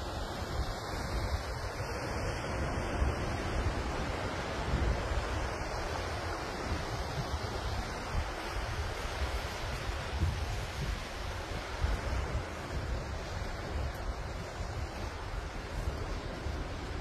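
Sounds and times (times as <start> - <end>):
ocean surf on rocky shore: 0.0 - 17.0
wind gusting on microphone: 0.0 - 17.0.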